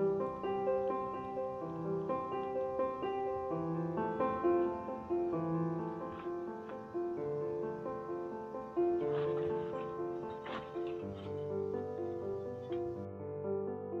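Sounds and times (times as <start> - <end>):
classical piano music: 0.0 - 14.0.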